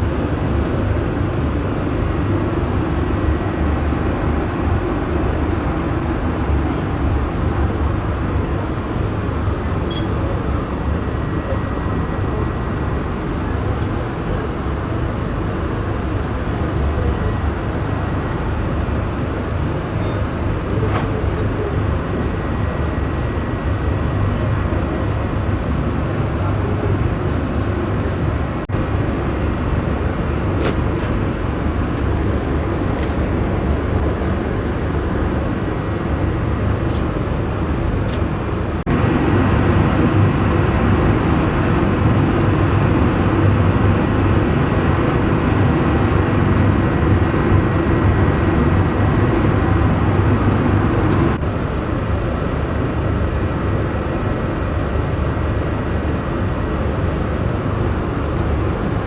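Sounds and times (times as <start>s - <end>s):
airliner cabin engine rumble: 0.0s - 55.2s.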